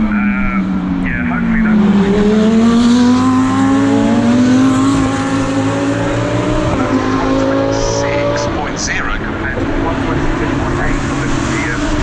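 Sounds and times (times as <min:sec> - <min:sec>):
race car engine accelerating: 0:00.0 - 0:12.0
second engine: 0:00.0 - 0:12.0.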